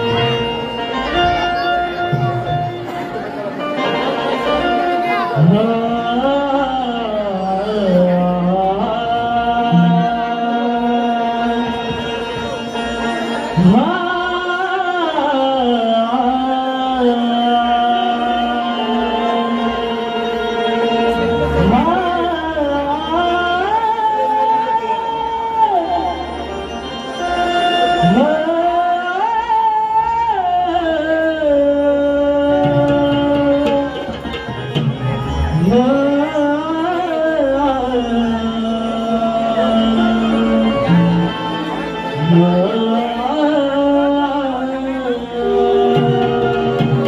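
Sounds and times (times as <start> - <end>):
man singing long held notes: 5.2 - 34.4, 35.0 - 47.0.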